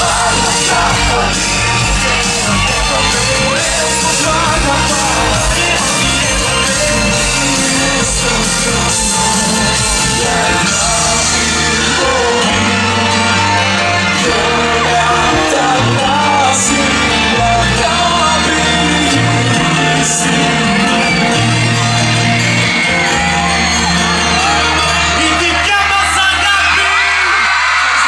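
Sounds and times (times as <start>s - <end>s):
person singing: 0.0s - 25.2s
audience shouting and whooping: 0.0s - 28.0s
live pop band playing: 0.0s - 28.0s.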